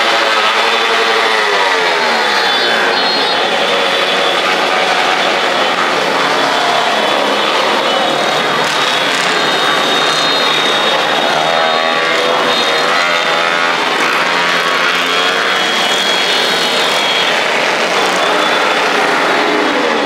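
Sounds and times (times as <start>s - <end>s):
motorcycles and scooters revving: 0.0s - 20.0s.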